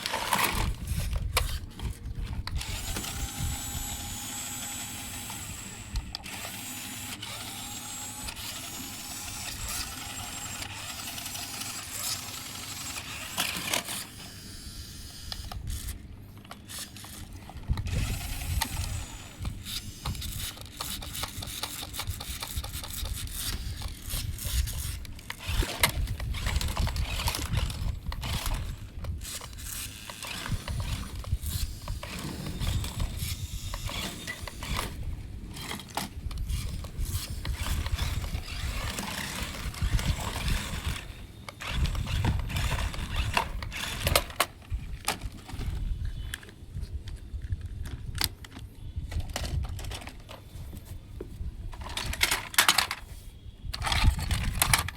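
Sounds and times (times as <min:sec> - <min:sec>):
toy car motor rumble: 0:00.0 - 0:46.5, 0:51.7 - 0:53.0, 0:53.7 - 0:54.9
plastic gears clicking and rattling: 0:00.0 - 0:50.4, 0:51.7 - 0:53.1, 0:53.7 - 0:54.9.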